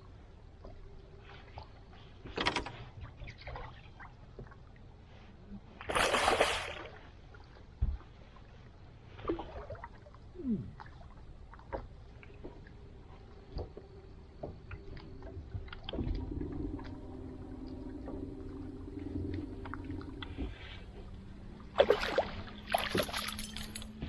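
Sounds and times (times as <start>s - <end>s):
water lapping against a boat hull: 0.0s - 23.8s.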